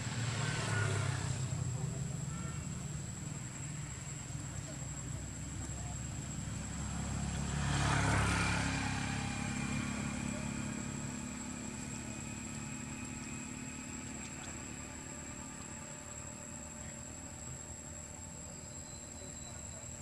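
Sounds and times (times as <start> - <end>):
motorbike engine passing: 0.0 - 20.0.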